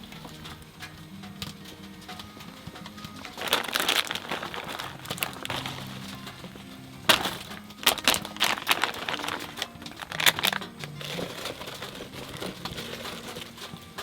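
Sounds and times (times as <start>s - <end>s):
plastic packaging crinkling: 0.0s - 14.0s
soft background music: 0.0s - 14.0s.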